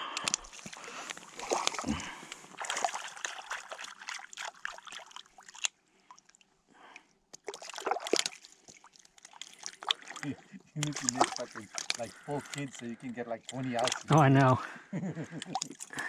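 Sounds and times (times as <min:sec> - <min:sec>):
water splashing and trickling: 0:00.0 - 0:14.7, 0:15.3 - 0:16.0.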